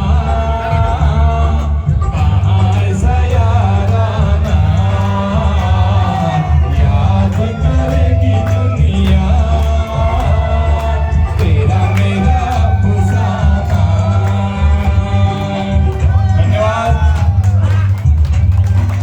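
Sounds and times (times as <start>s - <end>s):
man singing: 0.0s - 18.2s
loud music with heavy bass: 0.0s - 19.0s.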